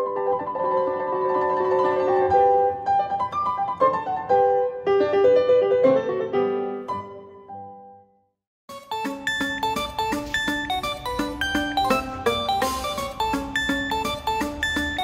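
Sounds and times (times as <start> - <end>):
piano music: 0.0 - 8.1, 8.7 - 15.0.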